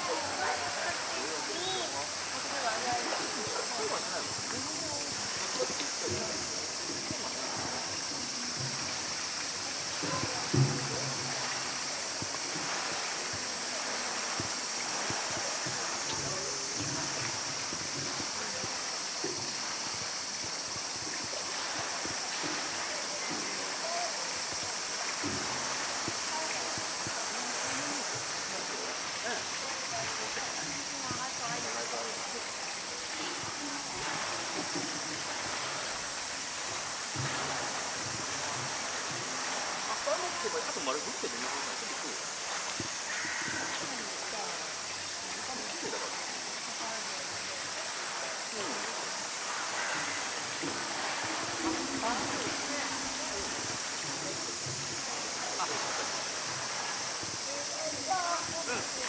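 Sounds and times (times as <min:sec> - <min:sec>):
continuous high hiss: 0:00.0 - 0:59.0
rushing water: 0:00.0 - 0:59.0.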